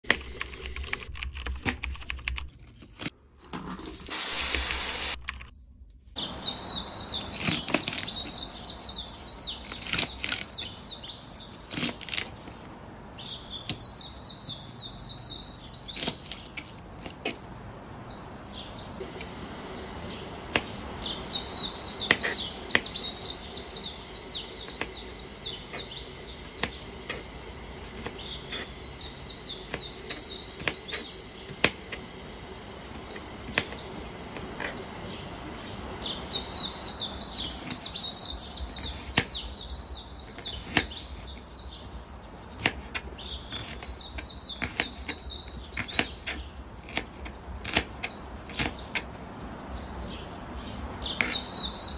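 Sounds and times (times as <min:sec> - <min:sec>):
small birds chirping: 0:04.2 - 0:51.9.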